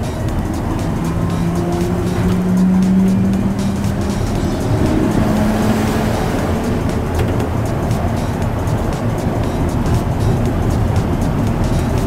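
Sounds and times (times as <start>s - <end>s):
train motor whine: 0.0s - 10.9s
oncoming train passing: 0.0s - 12.0s
rumble of train tyres: 0.0s - 12.0s.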